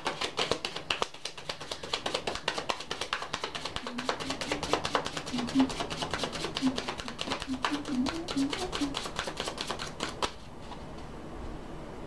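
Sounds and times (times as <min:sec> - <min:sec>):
cards being shuffled: 0:00.0 - 0:10.4.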